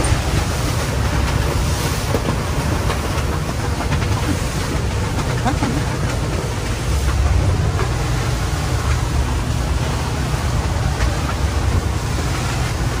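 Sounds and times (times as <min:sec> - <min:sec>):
boat engine rumble: 0:00.0 - 0:13.0
rushing water: 0:00.0 - 0:13.0
rushing wind: 0:00.0 - 0:13.0.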